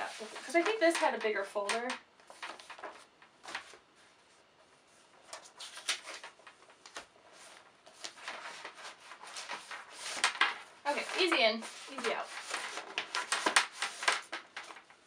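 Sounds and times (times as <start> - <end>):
paper folders rustling and sliding: 0.0 - 15.0.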